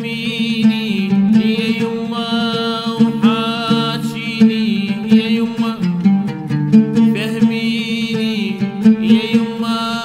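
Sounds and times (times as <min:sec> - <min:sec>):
man singing with vibrato: 0:00.0 - 0:10.0
plucked oud: 0:00.0 - 0:10.0.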